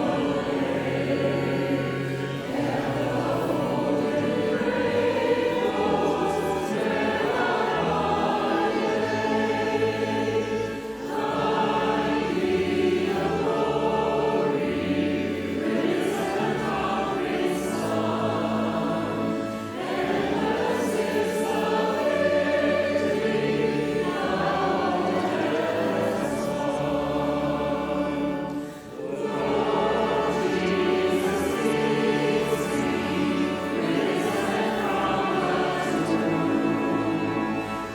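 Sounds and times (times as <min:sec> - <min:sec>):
choir singing a hymn: 0:00.0 - 0:37.9.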